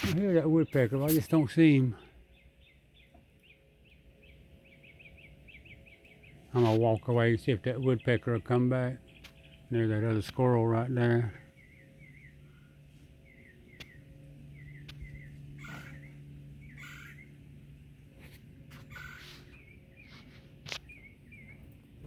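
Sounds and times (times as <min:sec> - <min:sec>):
bird chirping: 0:00.0 - 0:17.9, 0:18.7 - 0:22.0
steady low hum: 0:00.0 - 0:22.0.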